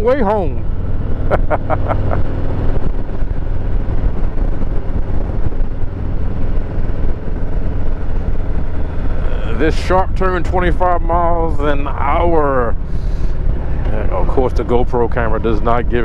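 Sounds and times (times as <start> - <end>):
motorcycle engine running: 0.0 - 16.0
wind rush on microphone: 0.0 - 16.0.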